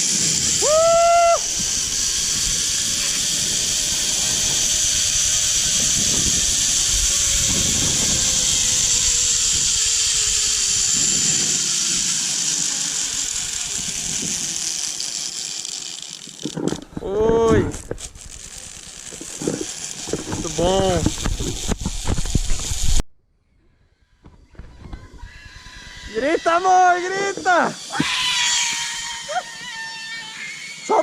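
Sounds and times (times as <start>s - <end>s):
zipline pulleys hissing on cable: 0.0s - 23.0s, 24.6s - 31.0s.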